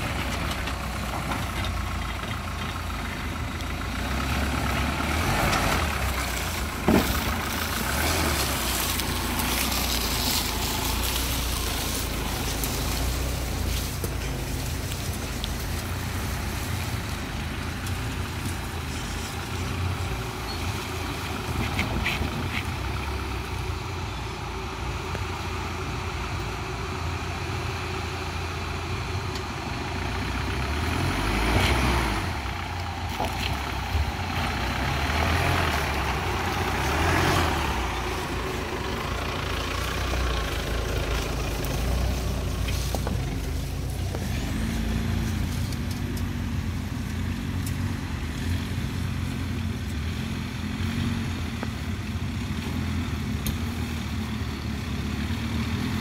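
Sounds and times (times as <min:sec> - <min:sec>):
jeep engines crawling: 0:00.0 - 0:56.0.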